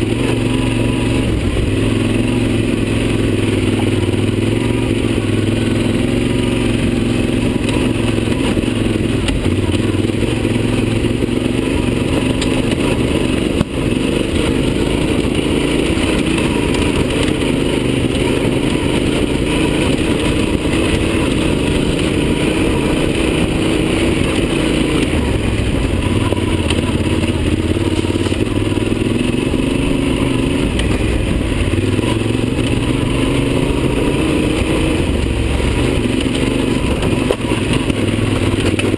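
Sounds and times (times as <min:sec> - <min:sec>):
clatter from rough ground: 0:00.0 - 0:38.9
motorcycle engine under load: 0:00.0 - 0:38.9.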